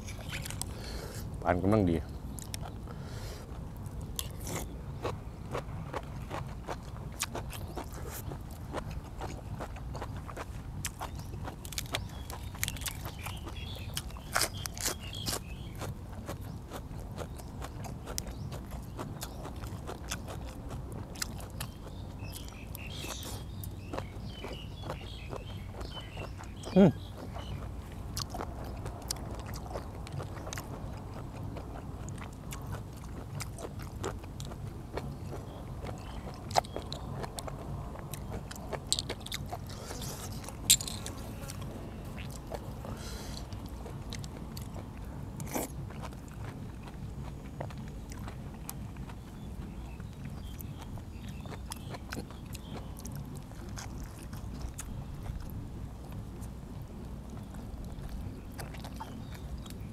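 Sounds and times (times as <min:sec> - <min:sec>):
person chewing: 0:00.0 - 0:01.4, 0:02.2 - 0:59.9.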